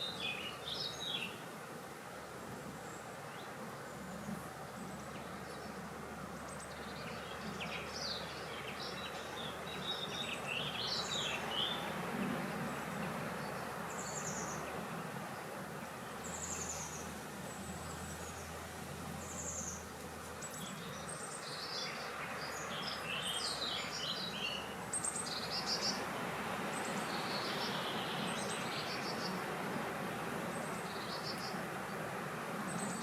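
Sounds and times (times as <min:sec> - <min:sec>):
birds chirping: 0:02.8 - 0:18.6, 0:19.2 - 0:26.1, 0:26.7 - 0:32.0.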